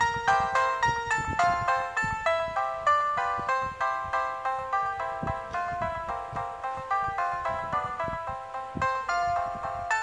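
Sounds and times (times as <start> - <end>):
polyphonic ringtone melody: 0.0 - 10.0.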